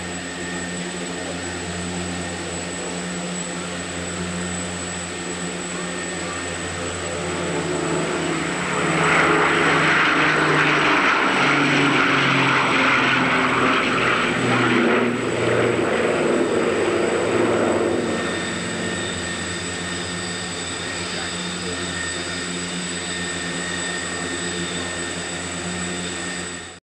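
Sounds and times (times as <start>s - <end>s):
propeller aircraft engines droning: 0.0s - 26.8s.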